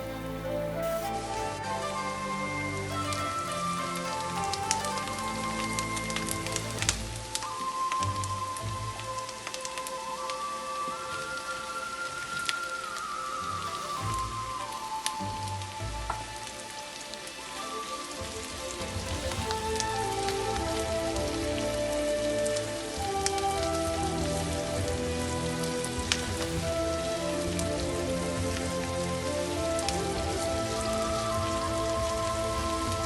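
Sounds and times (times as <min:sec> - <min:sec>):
background music held notes: 0:00.0 - 0:33.0
crackling sizzle: 0:00.0 - 0:33.0.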